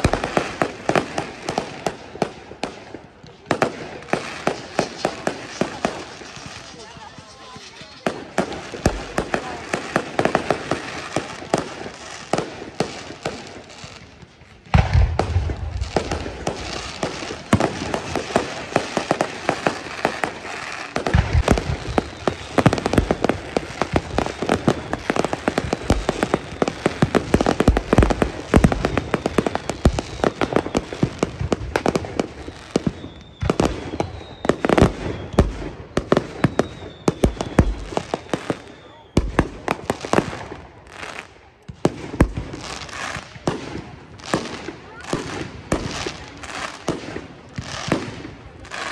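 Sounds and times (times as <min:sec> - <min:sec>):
fireworks bursting and crackling: 0:00.0 - 0:48.9
deep firework booms: 0:08.0 - 0:40.7, 0:41.7 - 0:48.5.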